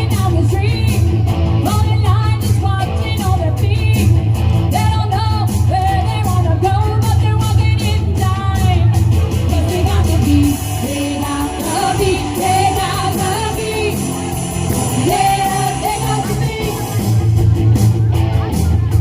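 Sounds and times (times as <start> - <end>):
woman singing: 0.0 - 17.0
rock band playing pop song: 0.0 - 19.0.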